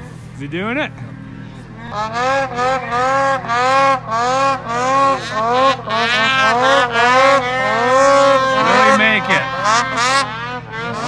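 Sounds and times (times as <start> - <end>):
snowmobile engine revving: 0.0 - 11.0.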